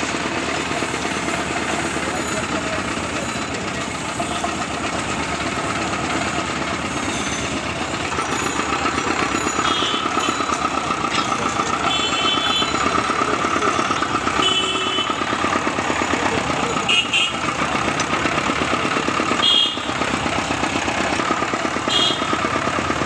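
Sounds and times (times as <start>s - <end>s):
juice extractor motor whining: 0.0s - 23.0s.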